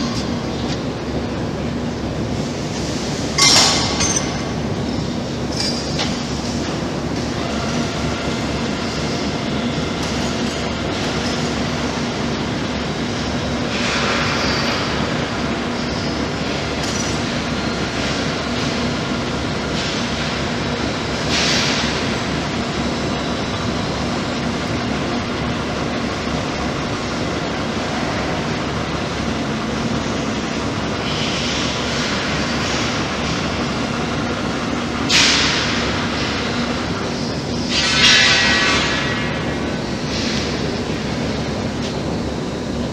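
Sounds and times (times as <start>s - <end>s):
machine drone with low hum: 0.0s - 42.9s.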